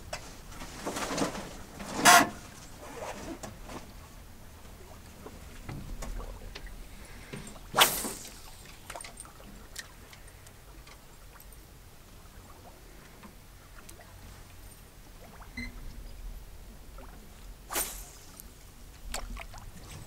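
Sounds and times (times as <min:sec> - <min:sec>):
low steady rumble: 0:00.0 - 0:20.0
water lapping against boat hull: 0:01.5 - 0:20.0.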